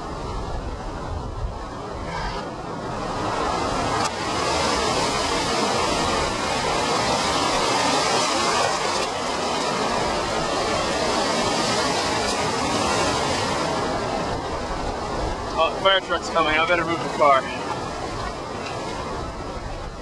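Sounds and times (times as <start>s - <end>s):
storm wind: 0.0s - 20.0s
waves breaking: 0.0s - 20.0s
wind buffeting microphone: 0.0s - 20.0s.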